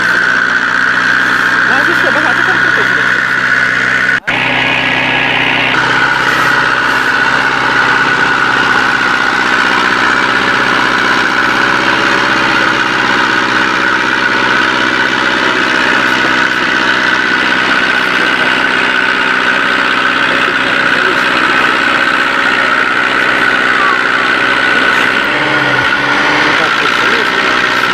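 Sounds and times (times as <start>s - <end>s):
constant high whine: 0.0s - 27.9s
tractor diesel engine running: 0.0s - 27.9s.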